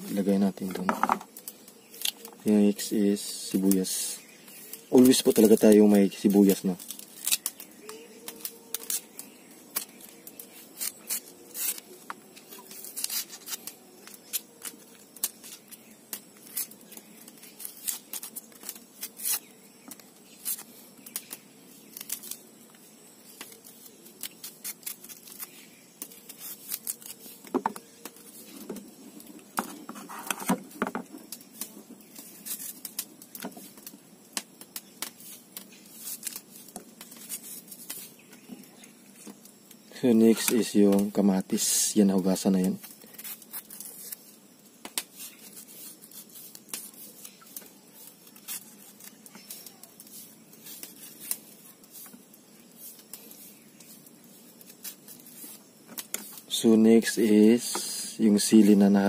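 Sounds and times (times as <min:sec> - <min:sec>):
papery skin tearing: 0:01.4 - 0:02.3, 0:03.5 - 0:28.6, 0:31.3 - 0:38.9, 0:42.3 - 0:58.8.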